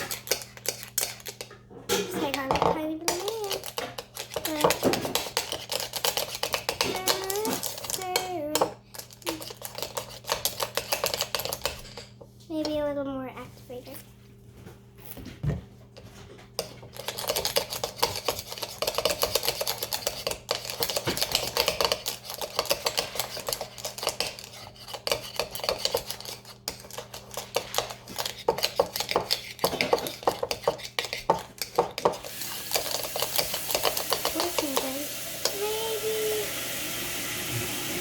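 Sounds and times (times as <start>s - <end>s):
spoon stirring and scraping slime: 0.0s - 36.4s.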